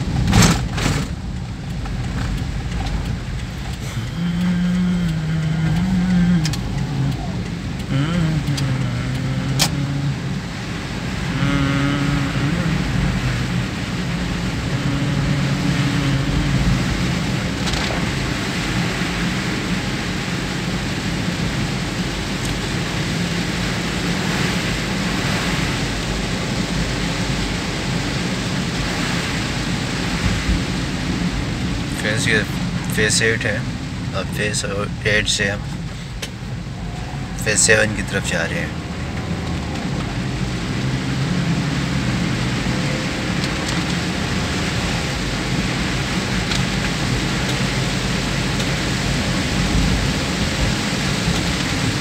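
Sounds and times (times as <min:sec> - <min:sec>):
car engine running: 0:00.0 - 0:52.0
rain on a car: 0:00.0 - 0:52.0
tyres on wet road: 0:00.0 - 0:52.0.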